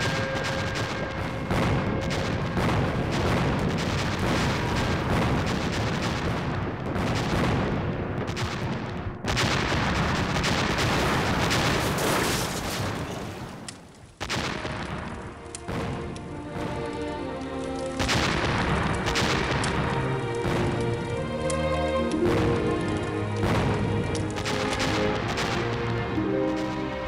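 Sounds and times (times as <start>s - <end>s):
rifle and machine-gun fire: 0.0s - 17.0s, 17.9s - 21.1s, 22.2s - 26.9s
explosions: 0.0s - 21.5s, 22.1s - 27.0s.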